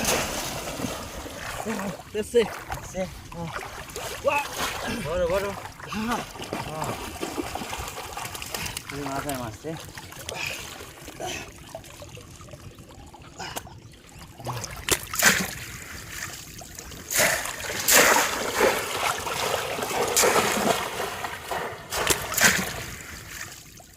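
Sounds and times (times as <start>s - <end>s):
water splashing and sloshing: 0.0s - 23.9s.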